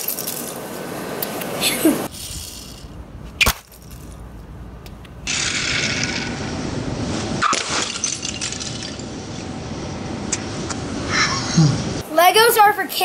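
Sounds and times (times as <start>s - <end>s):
steady outdoor hiss: 0.0s - 7.5s, 8.5s - 13.0s.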